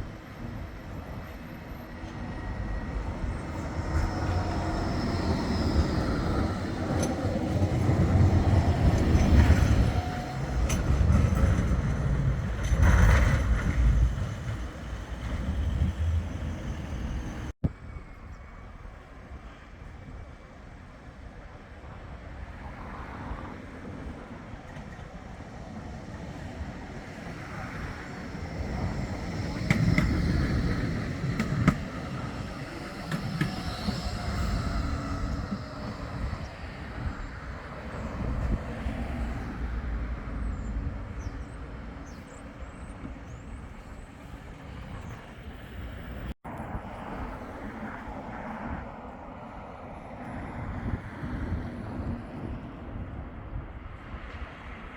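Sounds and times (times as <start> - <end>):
tram rumbling on track: 0.0 - 54.9.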